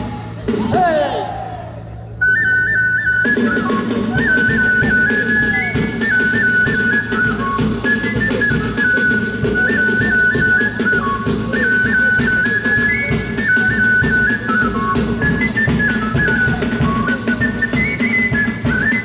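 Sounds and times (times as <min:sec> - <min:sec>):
drums: 0:00.0 - 0:19.0
high piping melody: 0:00.0 - 0:19.0.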